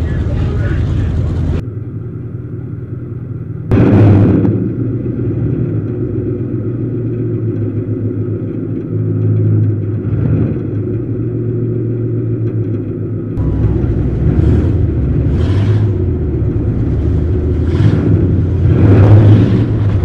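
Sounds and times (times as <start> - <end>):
race car engine running: 0.0 - 20.0.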